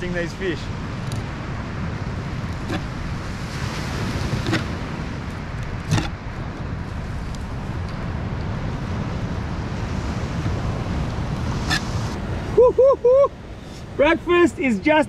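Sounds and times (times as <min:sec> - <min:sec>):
wind on microphone: 0:00.0 - 0:14.0
surf rumbling: 0:00.0 - 0:15.0.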